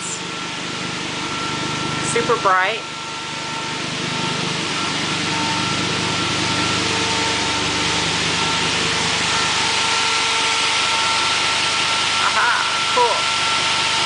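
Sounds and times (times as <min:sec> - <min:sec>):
car engine idling: 0:00.0 - 0:14.0
steady high whine: 0:00.0 - 0:14.0.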